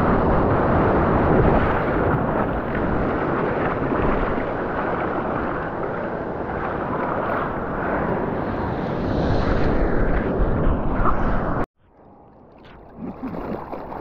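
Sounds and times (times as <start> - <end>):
ocean surf rushing: 0.0 - 11.6
wind buffeting microphone: 0.0 - 11.7.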